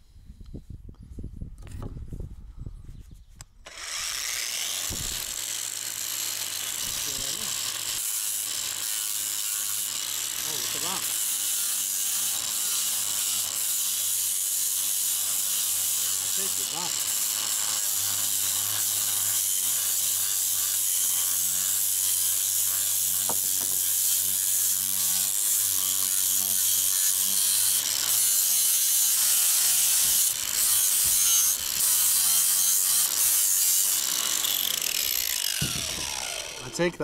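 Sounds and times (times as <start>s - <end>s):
angle grinder grinding wood: 3.7s - 37.0s.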